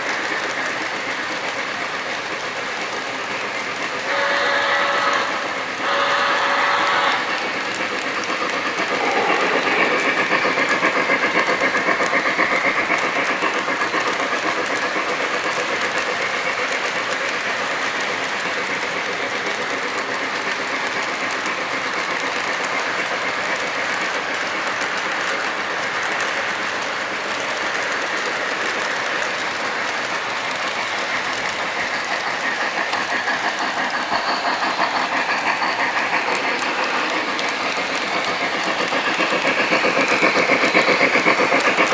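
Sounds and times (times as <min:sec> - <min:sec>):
model train wheels clattering: 0:00.0 - 0:41.9.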